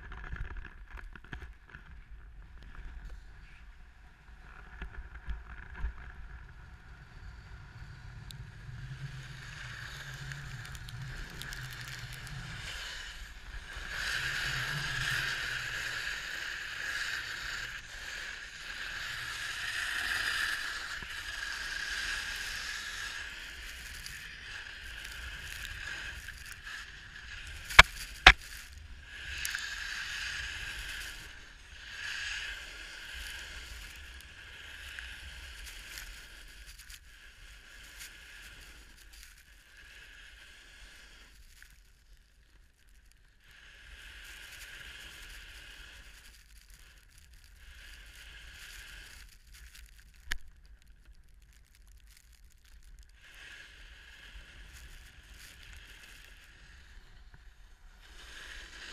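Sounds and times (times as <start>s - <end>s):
snowboard carving over snow: 0.0s - 58.9s.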